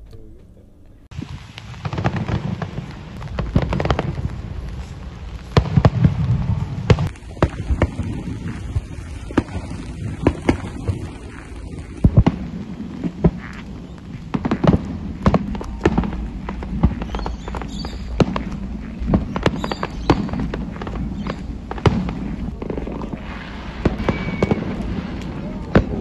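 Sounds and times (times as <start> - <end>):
fireworks bangs: 1.0 - 26.0.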